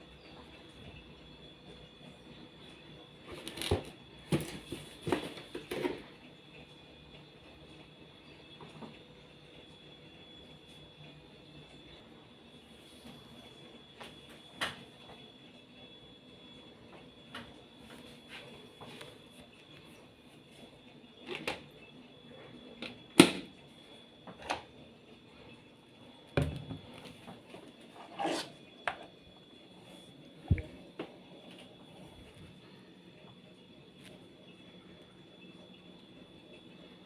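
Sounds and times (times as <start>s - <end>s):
faint high whine: 0.0s - 37.0s.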